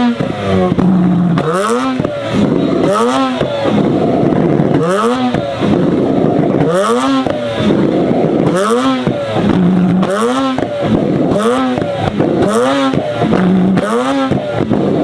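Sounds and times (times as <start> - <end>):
car engine revving in blips: 0.0 - 15.0.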